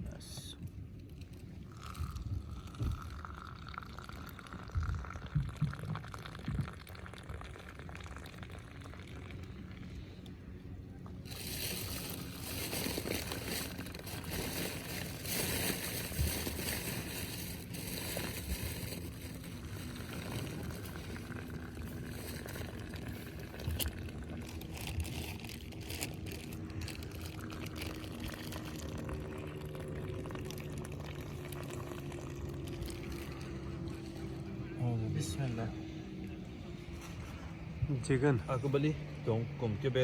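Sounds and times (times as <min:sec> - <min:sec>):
motorboat engine humming: 0:00.6 - 0:40.0.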